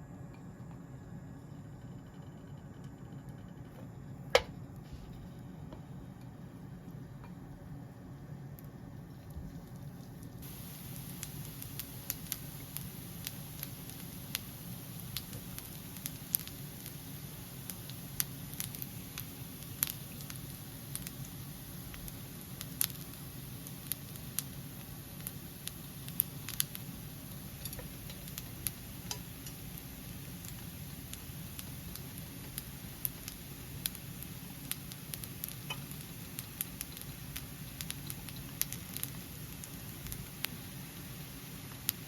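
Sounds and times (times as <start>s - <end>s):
food sizzling on a hot plate: 7.0s - 42.0s.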